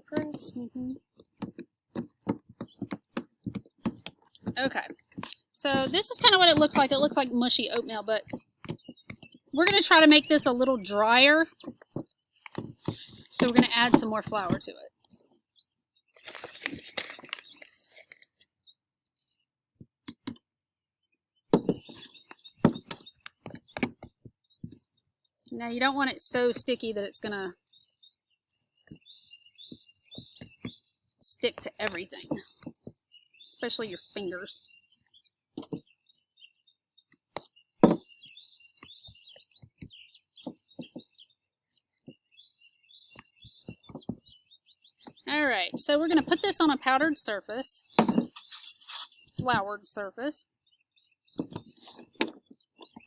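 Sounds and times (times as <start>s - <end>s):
birds chirping: 0.0s - 20.4s, 21.0s - 53.0s.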